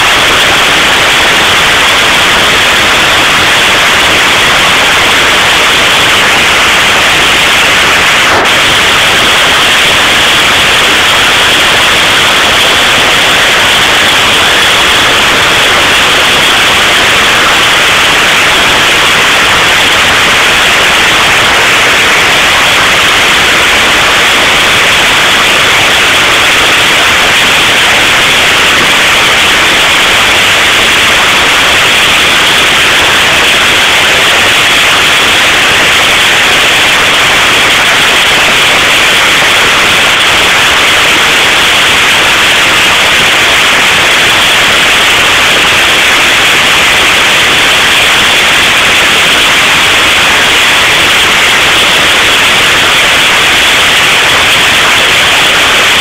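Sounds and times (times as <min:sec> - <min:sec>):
hail and rain pelting ground: 0:00.1 - 0:56.0.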